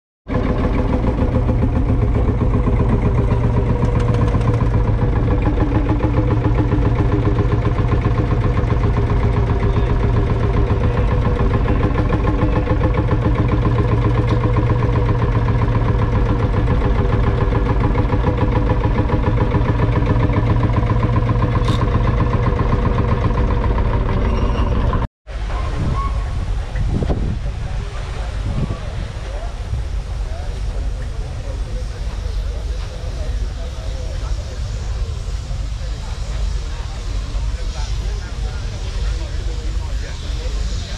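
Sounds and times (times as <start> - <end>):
diesel engine running: 0.3 - 25.5, 26.3 - 40.9.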